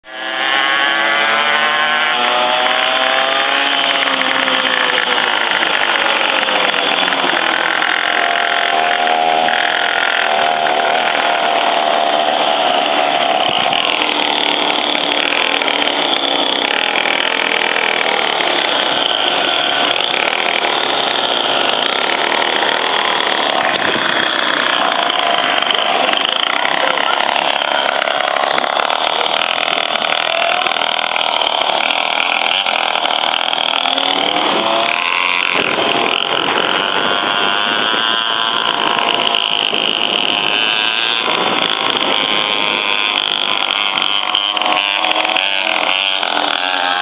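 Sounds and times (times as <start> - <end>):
scooter engine running: 0.0 - 47.0.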